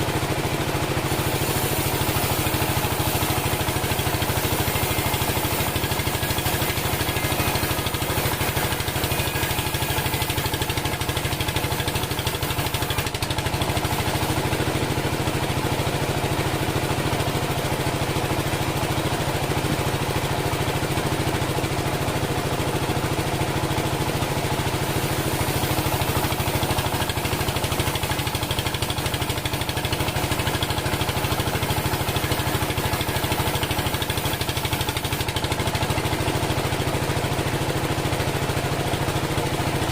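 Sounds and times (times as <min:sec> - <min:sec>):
band sawmill engine running: 0:00.0 - 0:39.9.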